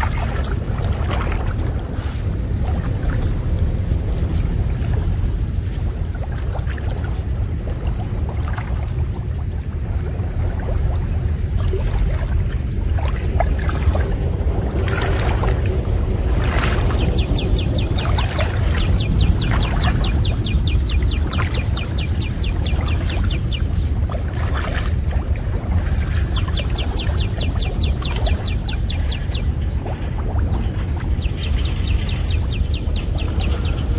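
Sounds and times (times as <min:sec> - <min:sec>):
steady low rumble: 0:00.0 - 0:33.9
water sloshing and splashing: 0:00.0 - 0:33.9.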